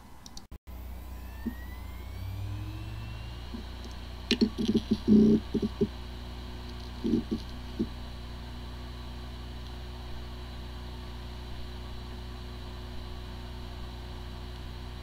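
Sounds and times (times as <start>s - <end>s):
hard drive spinning hum: 0.0s - 15.0s.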